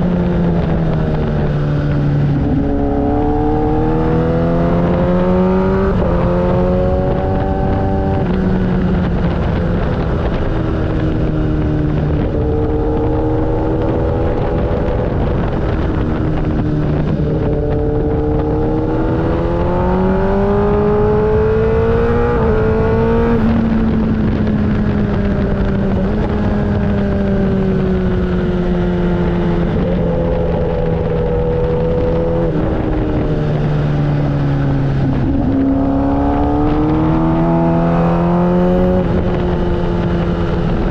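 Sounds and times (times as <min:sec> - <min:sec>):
motorcycle engine accelerating: 0:00.0 - 0:40.9
steady rushing noise: 0:00.0 - 0:40.9.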